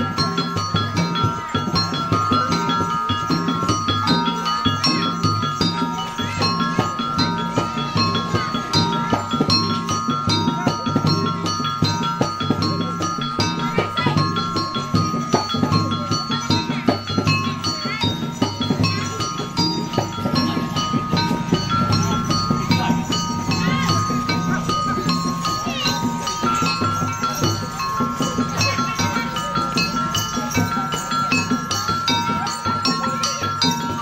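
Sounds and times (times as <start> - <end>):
tuned metal percussion music: 0.0 - 34.0.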